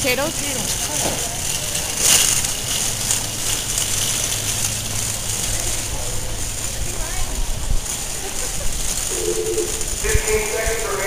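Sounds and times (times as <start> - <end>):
shopping cart rattling: 0.0 - 11.0.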